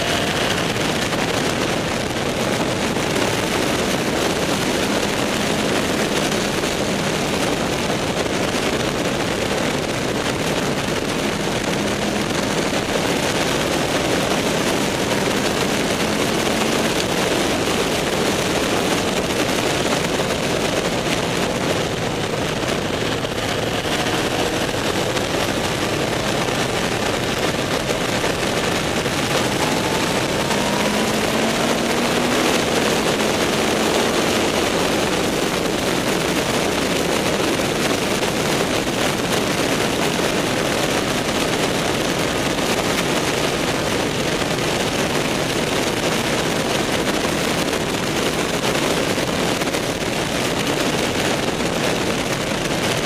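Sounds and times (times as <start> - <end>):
motorcycle engine: 0.0 - 53.0
wind rush on microphone: 0.0 - 53.0.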